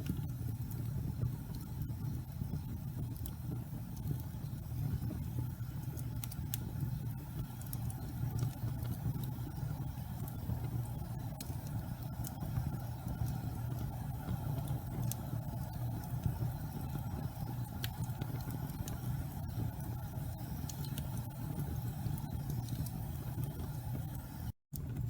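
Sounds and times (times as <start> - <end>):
fire crackles: 0.0 - 25.0
fire rumbling in fireplace: 0.0 - 25.0.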